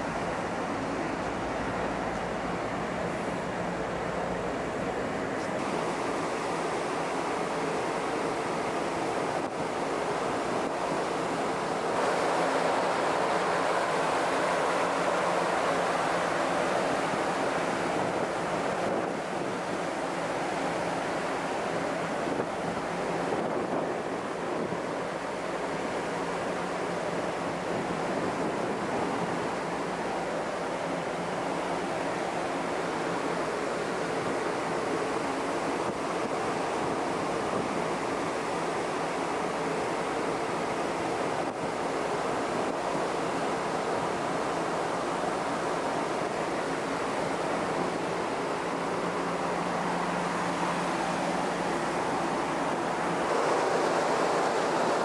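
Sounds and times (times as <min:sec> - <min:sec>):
water rushing along hull: 0:00.0 - 0:55.0
wind: 0:00.0 - 0:55.0.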